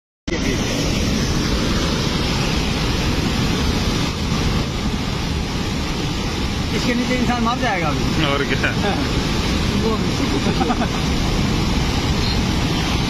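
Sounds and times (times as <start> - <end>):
muddy water rushing: 0.3 - 13.0.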